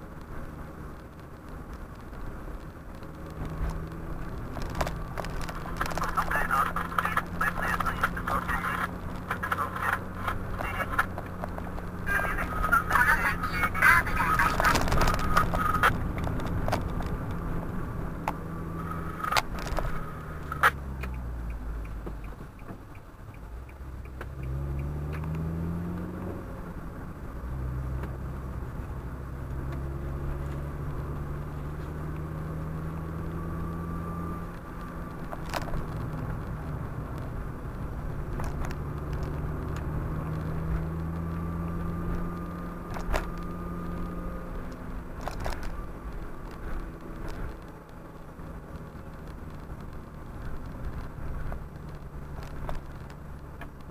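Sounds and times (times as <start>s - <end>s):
car engine inside cabin: 0.0s - 53.9s
road noise: 0.0s - 53.9s.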